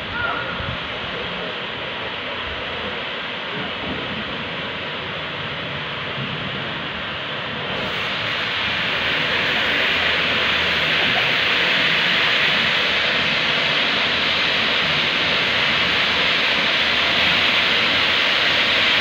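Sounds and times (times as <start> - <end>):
steam locomotive venting steam: 0.0 - 19.0.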